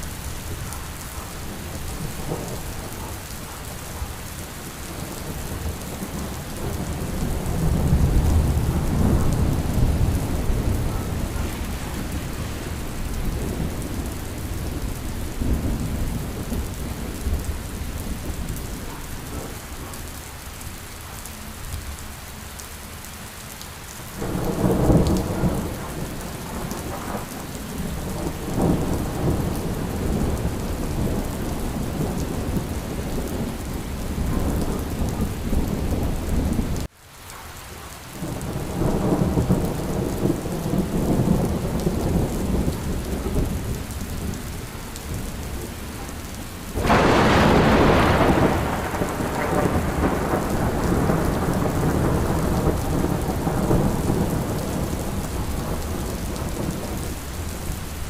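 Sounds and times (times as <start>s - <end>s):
thunder rumbling: 0.0s - 20.2s, 24.1s - 36.9s, 38.2s - 58.0s
steady rain: 0.0s - 58.0s.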